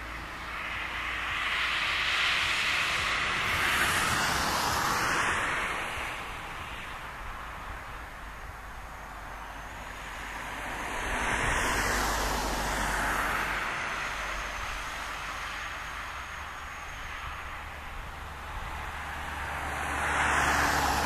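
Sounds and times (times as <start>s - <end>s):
vehicle passing by: 0.0s - 6.4s, 9.9s - 21.0s.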